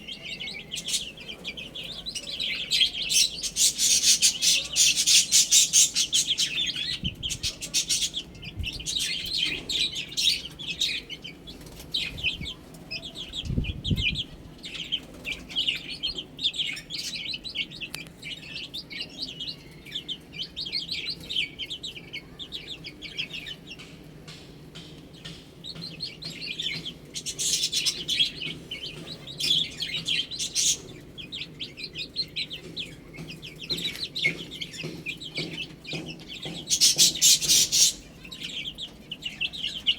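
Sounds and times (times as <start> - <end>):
baby chicks chirping: 0.0 - 39.9.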